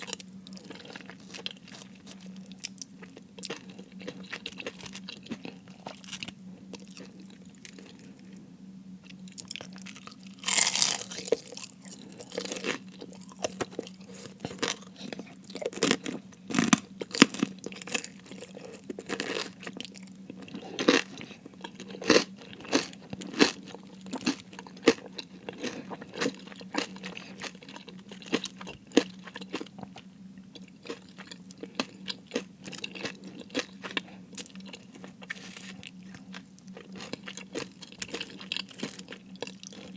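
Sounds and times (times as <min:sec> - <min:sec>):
chewing crispy food: 0:00.0 - 0:08.4, 0:09.0 - 0:39.9.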